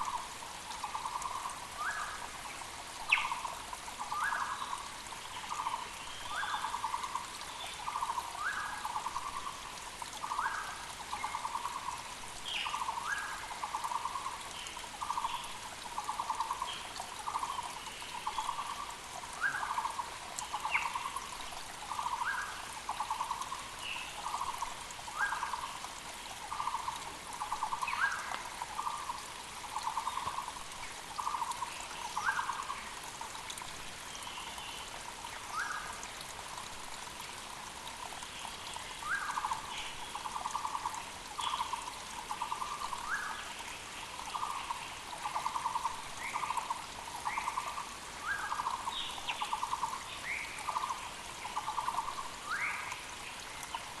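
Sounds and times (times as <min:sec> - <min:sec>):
creek flowing: 0:00.0 - 0:54.0.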